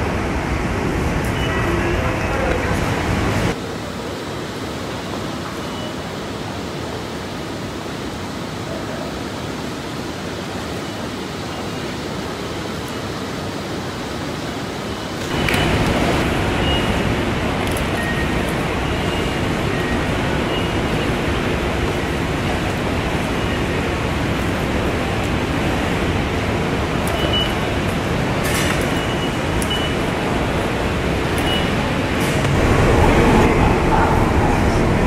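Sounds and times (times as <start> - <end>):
railway station hall ambience: 0.0 - 35.0.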